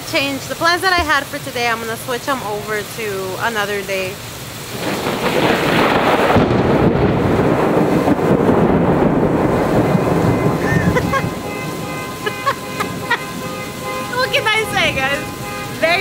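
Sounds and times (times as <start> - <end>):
rain and wind rushing: 0.0 - 16.0.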